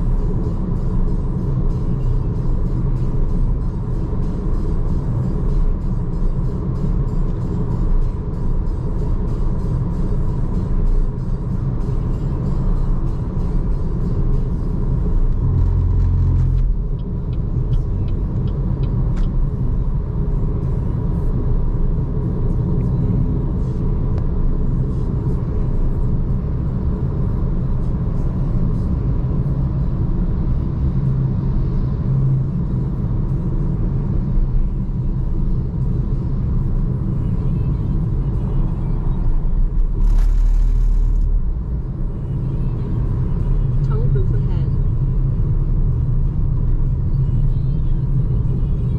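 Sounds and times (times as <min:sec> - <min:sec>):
road and tyre rumble: 0:00.0 - 0:48.9.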